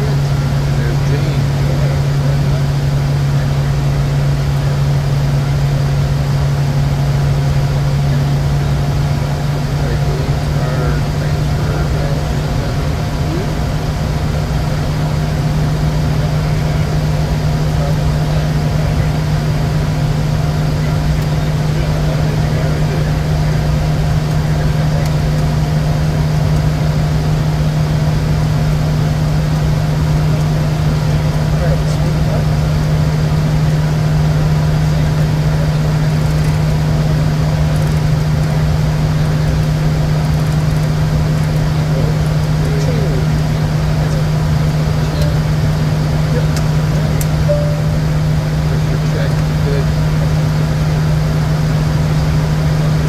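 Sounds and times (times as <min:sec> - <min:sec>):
constant low hum: 0:00.0 - 0:53.0
jet cockpit air and engine noise: 0:00.0 - 0:53.0.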